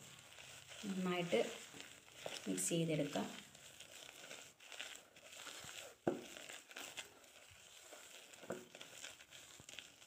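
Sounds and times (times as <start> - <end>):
utensil scraping batter in bowl: 0.0 - 10.0.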